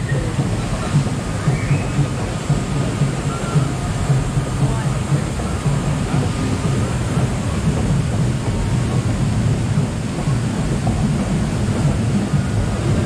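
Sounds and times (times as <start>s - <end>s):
raft conveyor lift rumble: 0.0s - 13.0s
water rushing: 0.0s - 13.0s.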